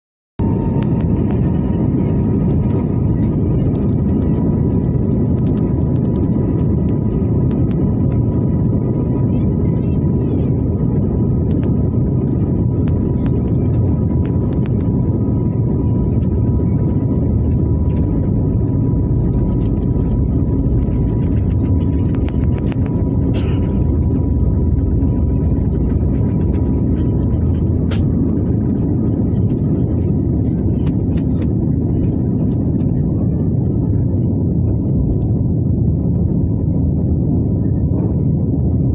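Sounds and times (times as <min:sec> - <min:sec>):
faint steady whine: 0:00.4 - 0:38.9
jet engine cabin rumble: 0:00.4 - 0:38.9.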